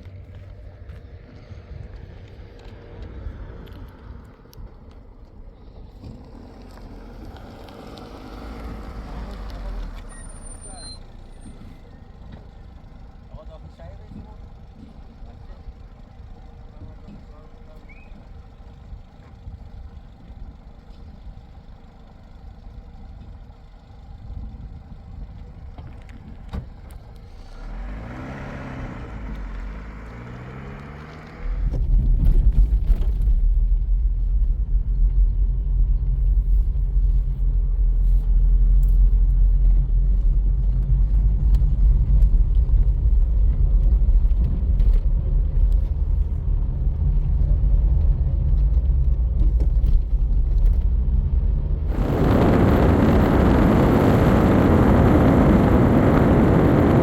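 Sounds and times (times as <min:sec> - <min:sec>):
motor vehicle rumbling: 0:00.0 - 0:57.0.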